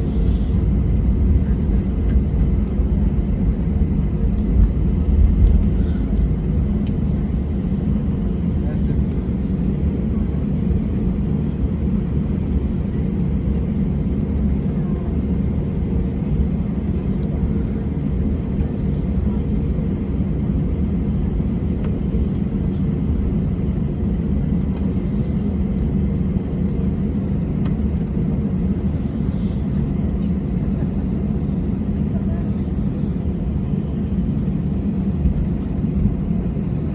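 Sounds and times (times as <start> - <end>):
jet airliner cabin rumble: 0.0 - 36.9.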